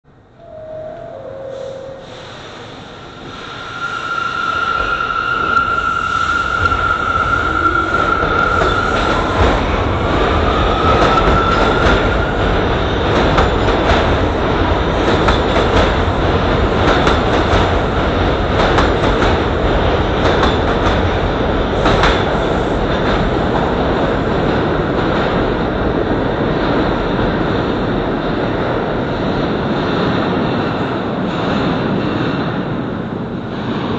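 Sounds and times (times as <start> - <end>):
train rumble: 0.1 - 33.9
electric train whine: 0.2 - 30.5.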